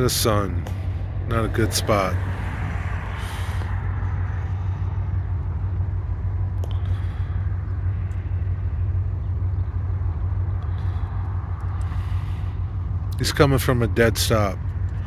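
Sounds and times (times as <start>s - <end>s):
locomotive diesel engine rumbling: 0.0s - 15.0s.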